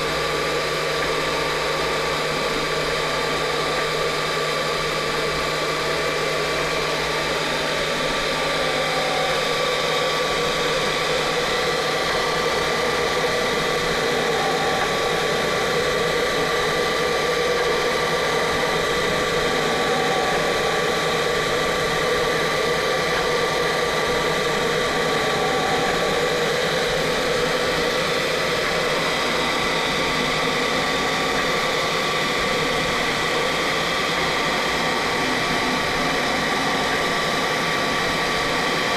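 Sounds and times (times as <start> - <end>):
thin steady whine: 0.0 - 38.9
dust extraction hiss: 5.7 - 38.9.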